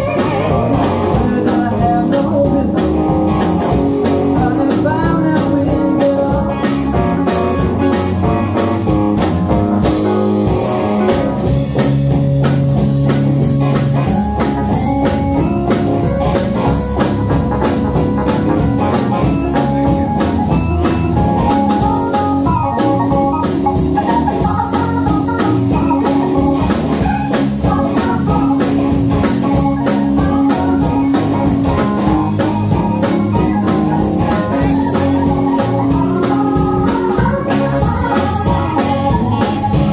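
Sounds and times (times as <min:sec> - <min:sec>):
drum kit beat: 0:00.0 - 0:39.9
electric bass: 0:00.0 - 0:39.9
electric guitar: 0:00.0 - 0:39.9
organ chords: 0:00.0 - 0:39.9.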